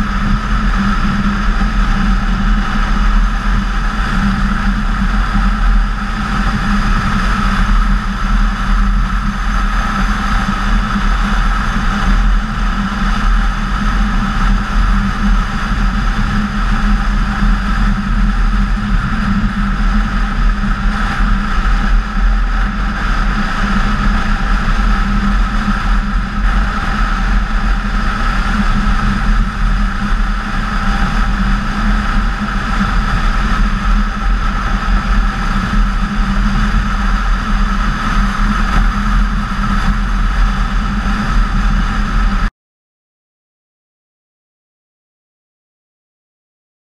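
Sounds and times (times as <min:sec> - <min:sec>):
wind and road noise: 0:00.0 - 0:42.5.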